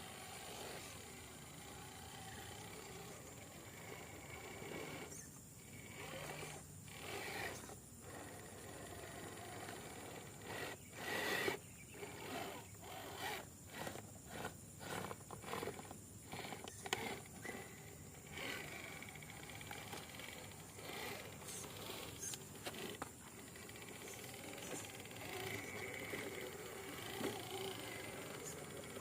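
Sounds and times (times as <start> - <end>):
toy truck electric motor whirring: 0.0 - 29.0.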